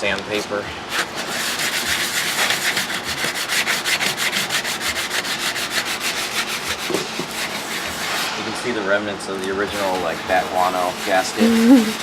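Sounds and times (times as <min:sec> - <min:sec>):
sandpaper rubbing on metal: 0:00.8 - 0:08.9, 0:09.6 - 0:12.0.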